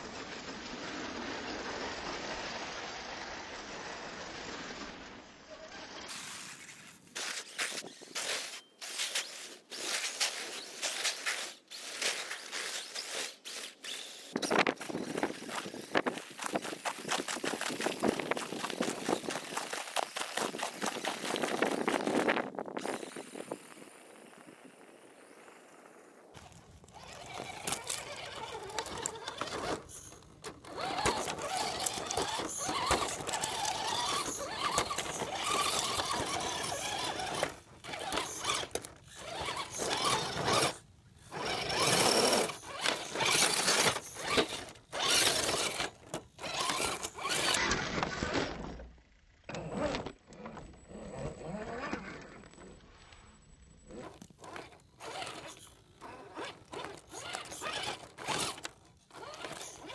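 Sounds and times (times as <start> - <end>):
toy truck electric motor whining: 4.1 - 59.9.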